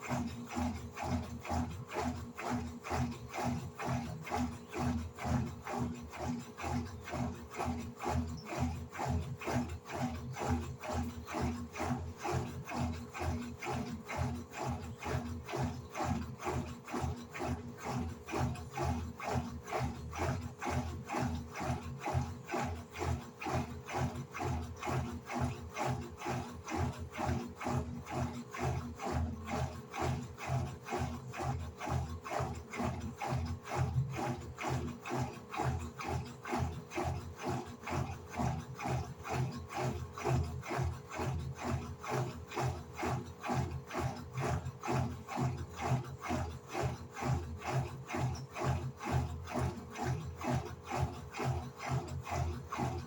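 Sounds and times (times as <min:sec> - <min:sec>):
washing machine agitating: 0:00.0 - 0:53.0.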